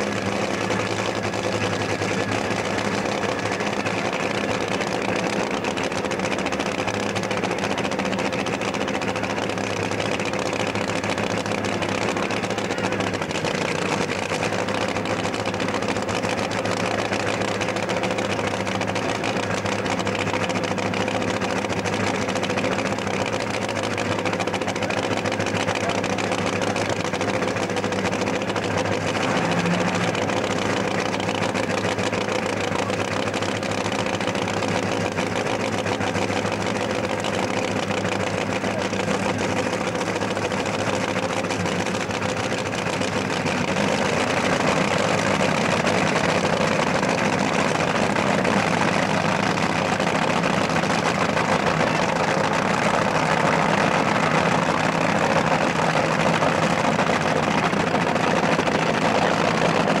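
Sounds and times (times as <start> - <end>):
dragster engine idling: 0.0 - 60.0.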